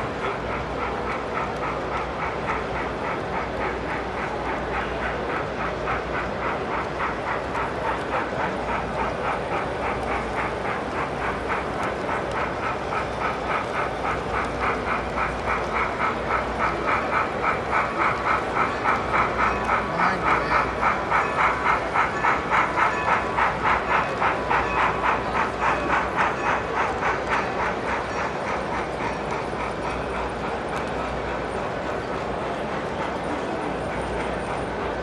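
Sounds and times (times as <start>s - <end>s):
model steam train rhythmic beat: 0.0s - 35.0s.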